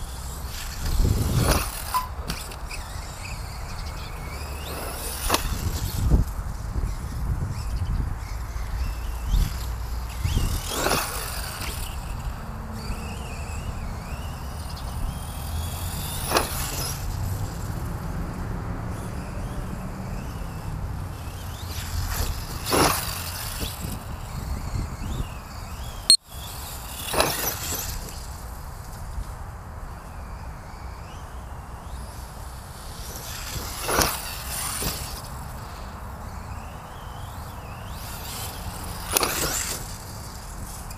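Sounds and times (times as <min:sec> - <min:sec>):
rc car motor whine: 0:00.0 - 0:40.9.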